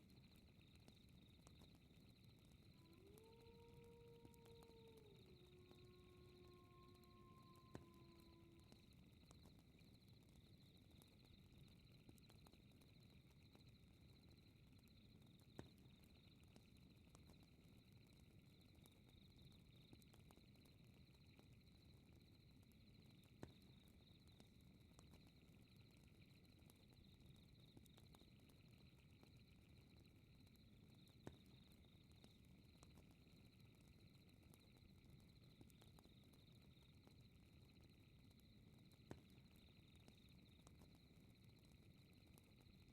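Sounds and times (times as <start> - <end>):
fire rumble with crackling pops: 0.0 - 42.9
night insects chirring: 0.0 - 42.9.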